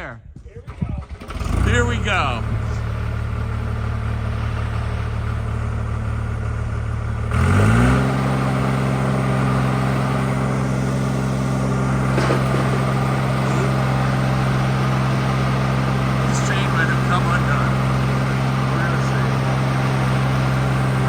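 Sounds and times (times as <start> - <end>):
skid steer engine revving: 1.1 - 21.0.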